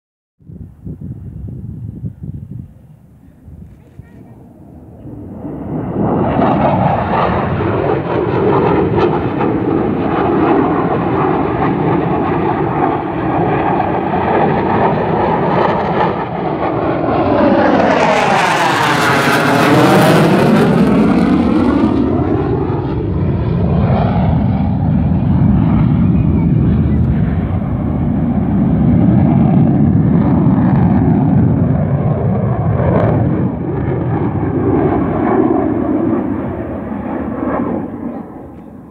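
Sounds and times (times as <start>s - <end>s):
jet engine roar: 2.6s - 38.9s.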